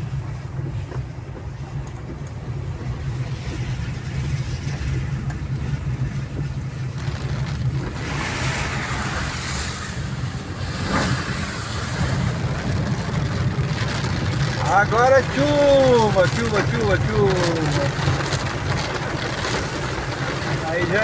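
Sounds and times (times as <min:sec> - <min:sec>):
car engine and road drone: 0:00.0 - 0:21.0
rain and wet tyres hissing: 0:02.4 - 0:21.0.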